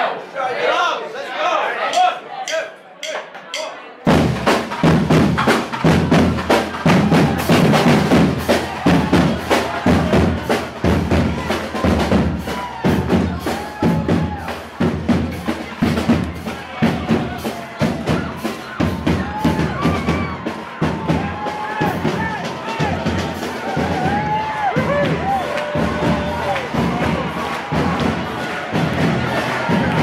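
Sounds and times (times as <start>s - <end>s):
brass band playing: 1.8s - 30.0s
drums and crash cymbals: 1.9s - 30.0s.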